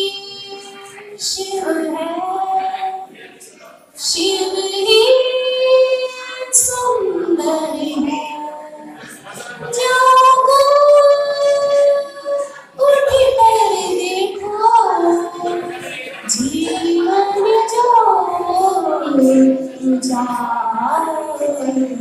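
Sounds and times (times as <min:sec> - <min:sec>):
woman singing into microphone: 0:00.0 - 0:03.2, 0:04.0 - 0:22.0.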